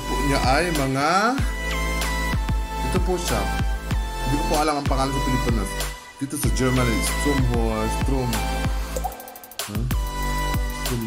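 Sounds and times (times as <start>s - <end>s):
deep bass line: 0.0s - 11.0s
regular drum beat: 0.2s - 11.0s.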